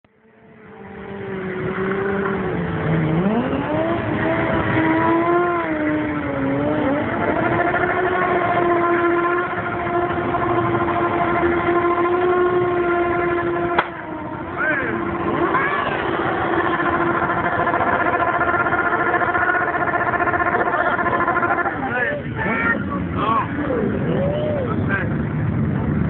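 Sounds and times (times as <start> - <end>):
motorcycle engine revving high: 0.1 - 26.0.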